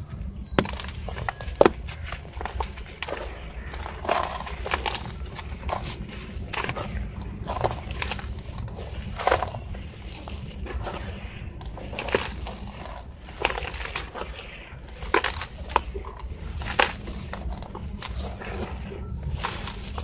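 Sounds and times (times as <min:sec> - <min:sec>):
clumps crunching: 0:00.0 - 0:20.0
low steady hum: 0:00.0 - 0:20.0.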